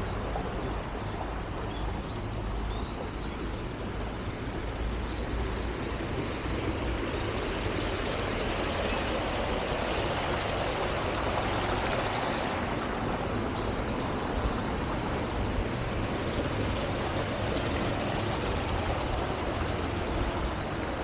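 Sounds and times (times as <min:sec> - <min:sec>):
rushing outdoor noise: 0:00.0 - 0:21.0.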